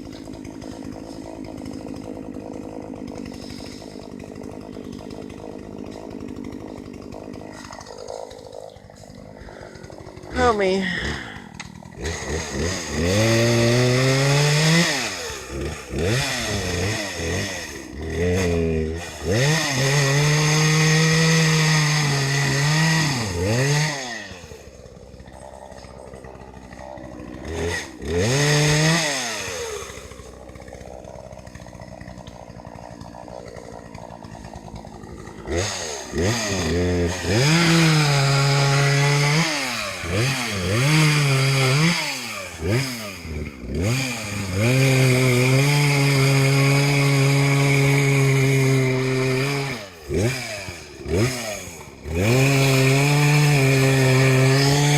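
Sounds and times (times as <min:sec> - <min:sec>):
chainsaw revving and idling: 0:00.0 - 0:54.9.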